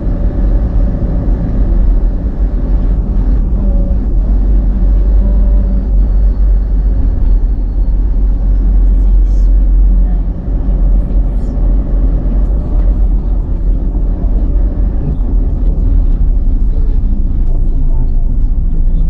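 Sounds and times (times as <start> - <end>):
car interior road and engine rumble: 0.0 - 19.0.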